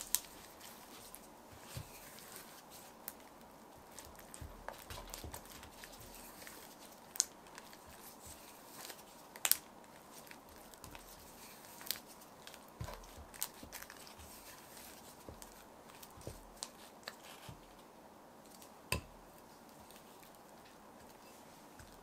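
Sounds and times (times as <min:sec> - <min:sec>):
small clicks and sticky crackles: 0:00.0 - 0:22.0.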